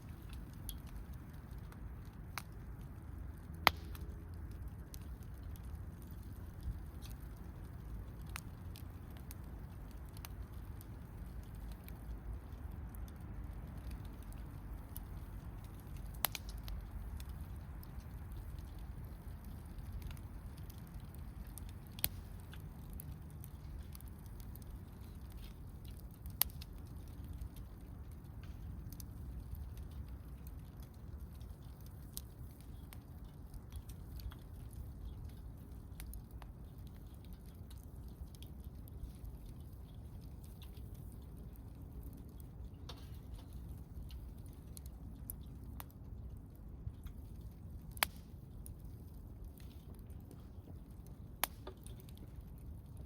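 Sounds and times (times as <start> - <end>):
burning wood popping: 0.0 - 53.0
wood fire crackling: 0.0 - 53.0.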